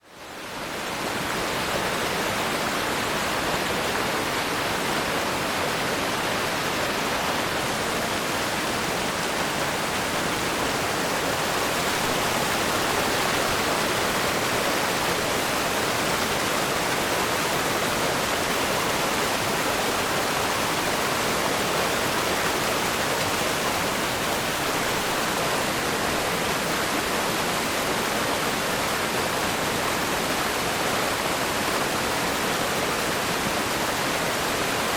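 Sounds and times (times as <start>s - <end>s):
river rapids rushing over rocks: 0.2s - 34.9s.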